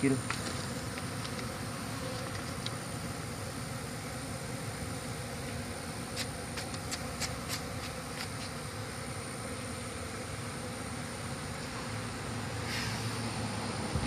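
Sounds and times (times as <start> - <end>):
honeybee colony droning: 0.0 - 14.0.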